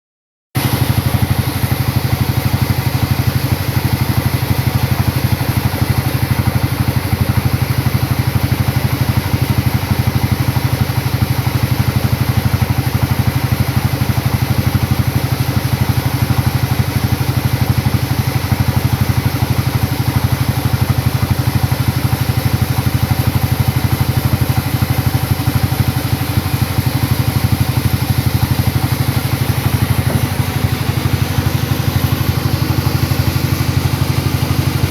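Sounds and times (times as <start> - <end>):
sawmill engine running: 0.6 - 34.9.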